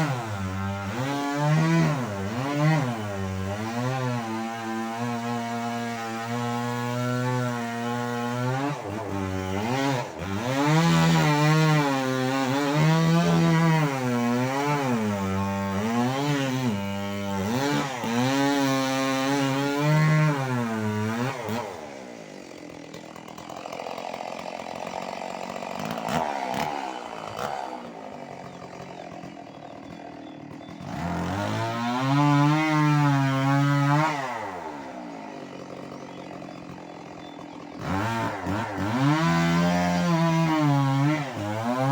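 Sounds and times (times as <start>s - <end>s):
chainsaw revving: 0.0s - 41.9s.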